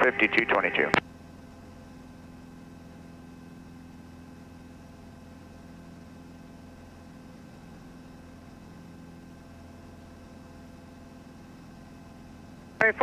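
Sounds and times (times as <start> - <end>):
light aircraft engine humming: 0.0 - 13.0.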